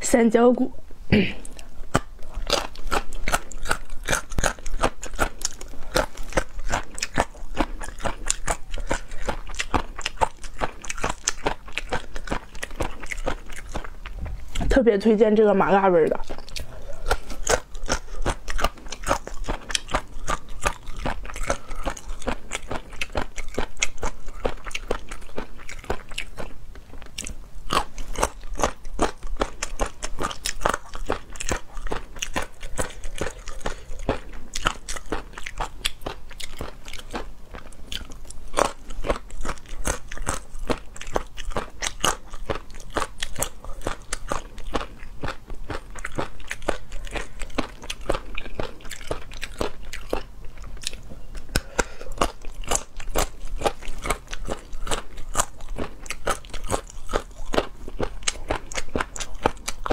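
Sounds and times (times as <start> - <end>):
chewing crunchy cartilage: 1.4 - 59.9.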